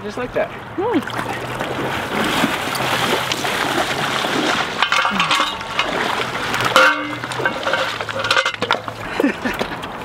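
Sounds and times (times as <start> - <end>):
river water sloshing and splashing: 1.0 - 9.1.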